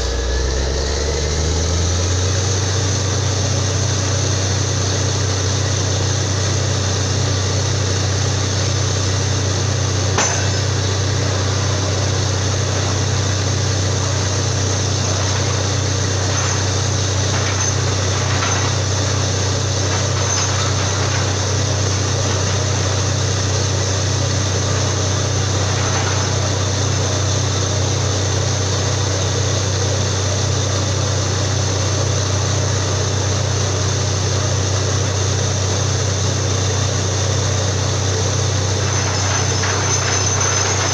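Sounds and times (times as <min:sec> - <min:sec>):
drilling rig engine hum: 0:00.0 - 0:40.9.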